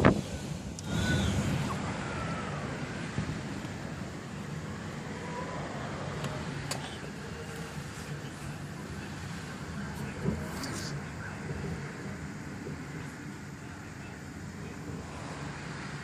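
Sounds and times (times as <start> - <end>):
strong wind gusts: 0.0 - 16.0.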